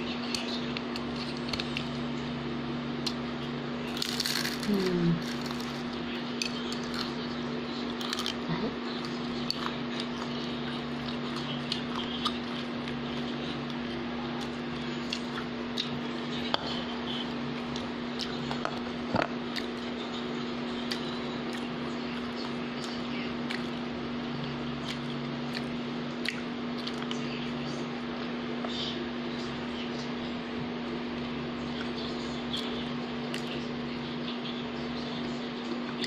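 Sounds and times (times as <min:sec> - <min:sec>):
chewing crunches and mouth clicks: 0:00.0 - 0:02.1, 0:03.0 - 0:27.6, 0:31.1 - 0:36.0
steady low hum: 0:00.0 - 0:36.0.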